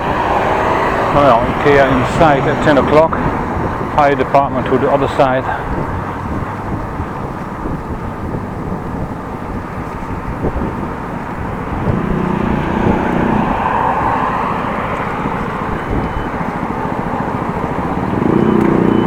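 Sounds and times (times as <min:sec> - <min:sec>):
bicycle road rumble: 0:00.0 - 0:19.0
motor vehicle passing: 0:00.0 - 0:19.0
wind on microphone: 0:00.0 - 0:19.0.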